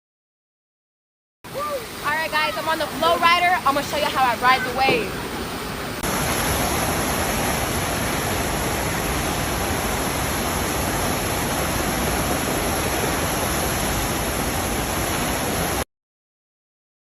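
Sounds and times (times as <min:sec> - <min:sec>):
rush of pumped water: 0:01.5 - 0:15.8.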